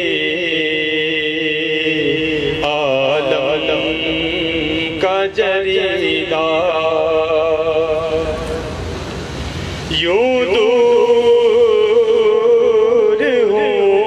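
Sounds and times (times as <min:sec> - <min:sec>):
man chanting into microphone: 0:00.0 - 0:08.7, 0:09.8 - 0:14.0.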